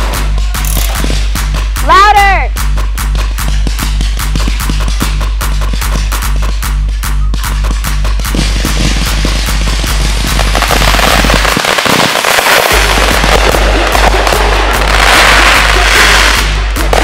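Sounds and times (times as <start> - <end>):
fireworks bursting and crackling: 0.0 - 2.0, 3.1 - 6.7, 7.3 - 17.0
electronic music with bass beat: 0.0 - 17.0.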